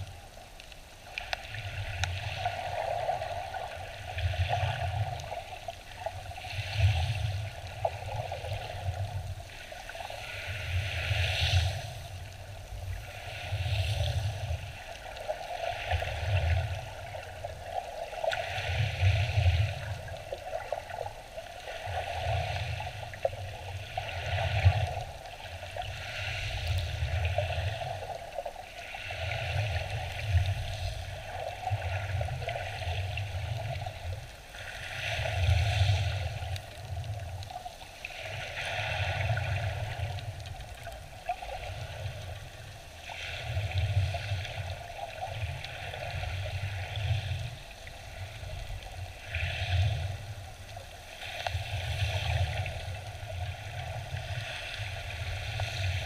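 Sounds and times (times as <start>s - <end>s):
underwater rushing and sloshing: 0.0s - 56.0s.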